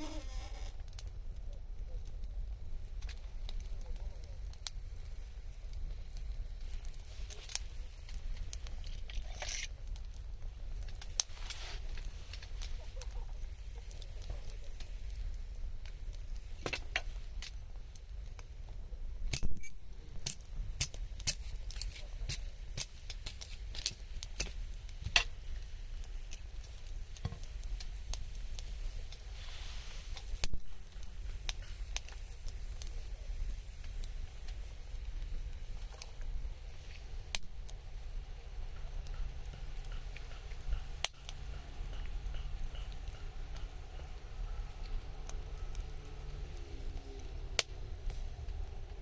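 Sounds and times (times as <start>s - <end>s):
low steady rumble: 0.0s - 49.0s
wood fire crackling and popping: 0.0s - 49.0s.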